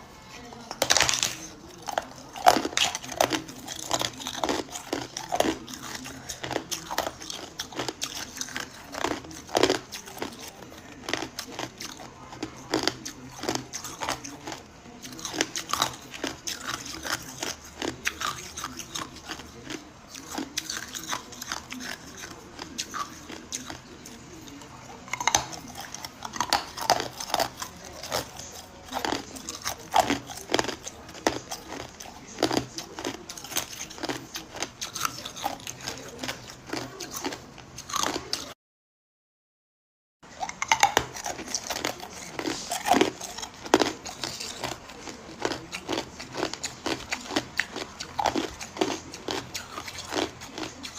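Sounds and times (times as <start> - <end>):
ice cubes being chewed: 0.4 - 38.5, 40.3 - 50.9.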